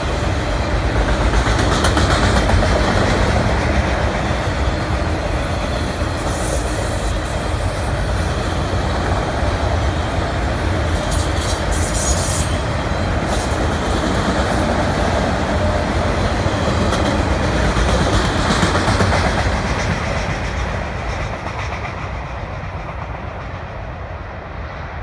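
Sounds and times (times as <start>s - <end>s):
train wheels clattering over rail joints: 0.2s - 23.7s.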